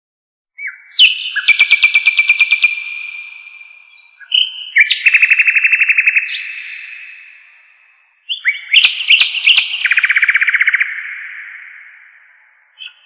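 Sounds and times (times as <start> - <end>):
songbird singing: 0.5 - 13.0.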